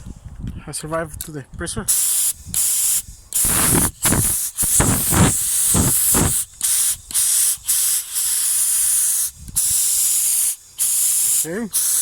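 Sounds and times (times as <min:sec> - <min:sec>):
spray gun air blasts: 0:01.9 - 0:12.0.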